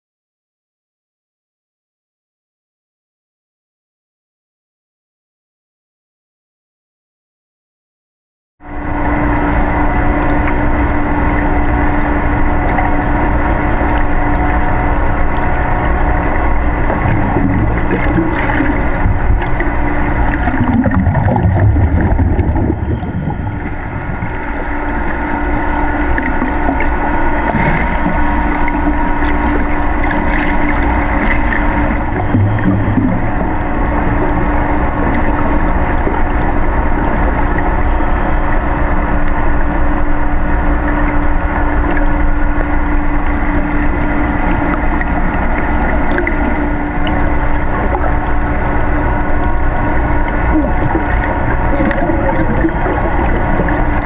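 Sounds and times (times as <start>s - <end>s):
underwater pump hum: 8.6s - 54.0s
low rumble: 8.7s - 54.0s.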